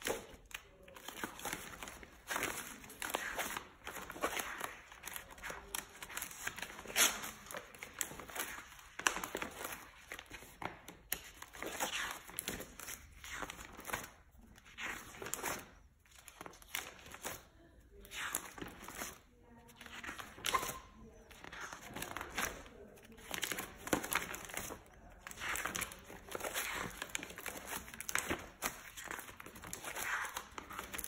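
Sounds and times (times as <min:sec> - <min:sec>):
sketchbook pages turning: 0:00.0 - 0:31.0.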